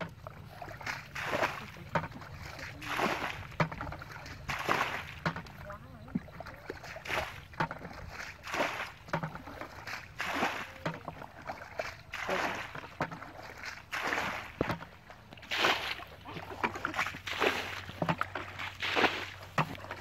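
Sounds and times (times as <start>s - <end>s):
bucket scooping muddy water: 0.0s - 20.0s
water poured from a bucket: 0.2s - 20.0s.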